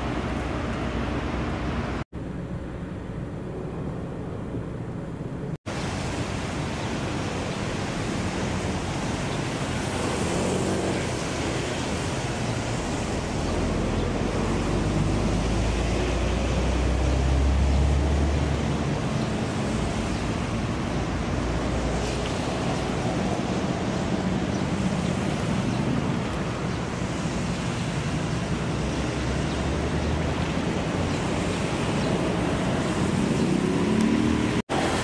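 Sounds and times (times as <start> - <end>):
harbour ambience: 0.0 - 35.0.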